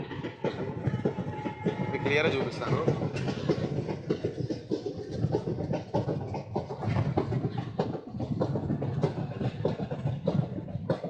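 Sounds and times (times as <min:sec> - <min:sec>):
train rumble: 0:00.0 - 0:11.0
train wheels clattering on rails: 0:00.0 - 0:11.0.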